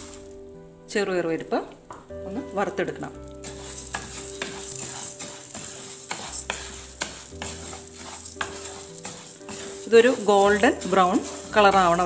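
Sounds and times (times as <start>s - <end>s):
lentils sizzling in ghee: 0.0s - 12.0s
spoon scraping and tapping pan: 1.7s - 12.0s.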